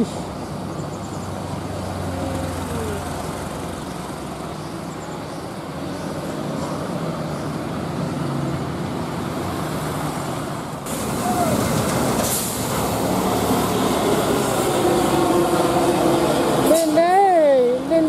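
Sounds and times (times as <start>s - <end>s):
heavy trucks diesel engines rumbling: 0.0s - 18.0s
passing car traffic: 0.0s - 18.0s.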